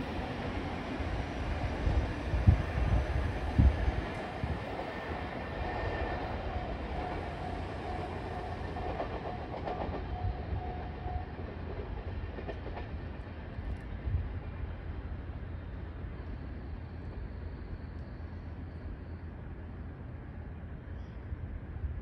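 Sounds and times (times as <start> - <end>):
train wheels rumbling on rails: 0.0 - 20.8.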